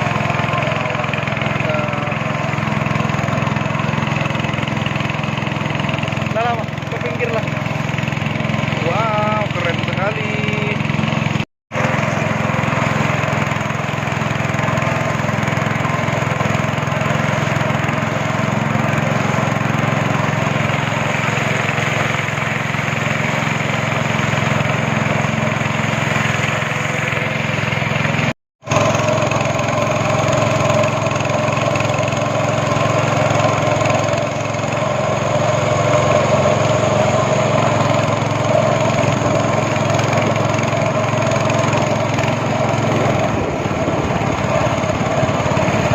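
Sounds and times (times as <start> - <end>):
rushing water haze: 0.0 - 45.9
speedboat engine drone: 0.0 - 45.9.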